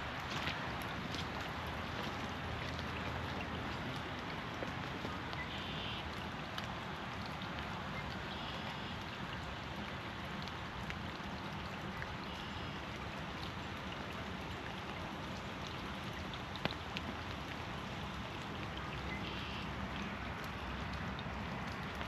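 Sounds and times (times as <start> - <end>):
raindrop ticks: 0.0 - 22.0
steady rain falling: 0.0 - 22.0.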